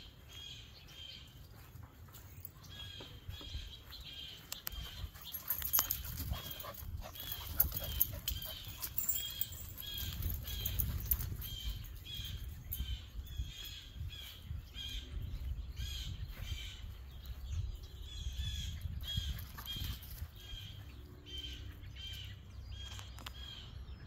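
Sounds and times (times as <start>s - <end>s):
small bird chirping: 0.0s - 23.9s.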